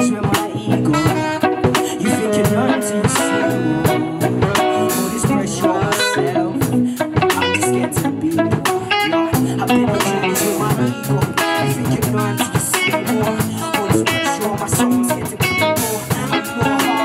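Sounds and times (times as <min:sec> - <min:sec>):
bass guitar: 0:00.0 - 0:17.0
drum kit beat: 0:00.0 - 0:17.0
electric guitar: 0:00.0 - 0:17.0.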